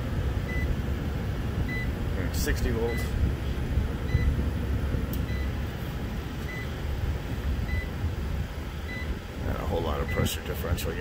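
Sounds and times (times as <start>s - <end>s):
heat pump low rumble: 0.0s - 11.0s.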